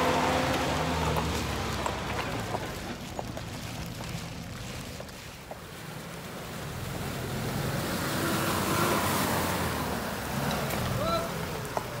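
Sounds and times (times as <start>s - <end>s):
water splashing and rushing: 0.0s - 12.0s.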